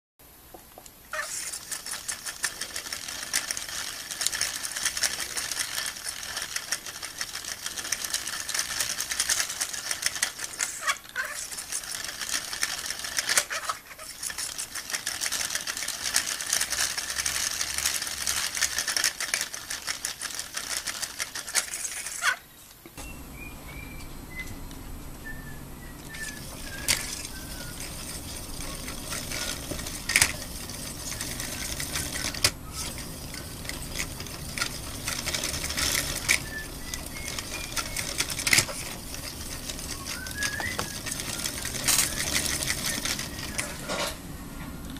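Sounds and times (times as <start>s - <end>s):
low whir of spinning model: 1.1s - 22.4s, 23.2s - 44.9s
plastic gears rattling and clicking: 1.1s - 22.4s, 26.1s - 44.1s.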